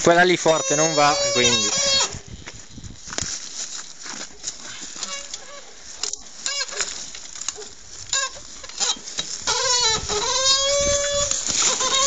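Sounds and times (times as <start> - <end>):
boots and tyres scraping ground: 0.0 - 12.0.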